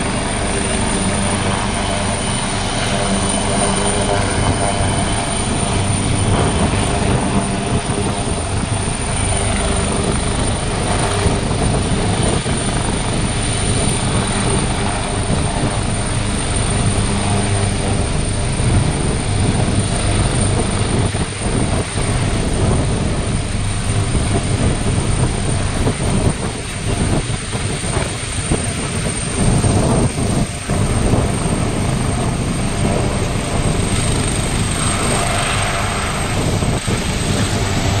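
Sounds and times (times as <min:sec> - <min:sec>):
helicopter rotor and turbine: 0:00.0 - 0:38.0.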